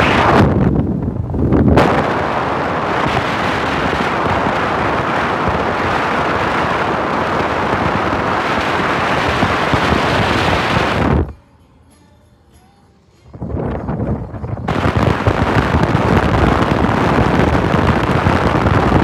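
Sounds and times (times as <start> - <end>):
car road noise: 0.0 - 11.4, 13.3 - 19.0
wind rushing over microphone: 0.0 - 11.4, 13.3 - 19.0.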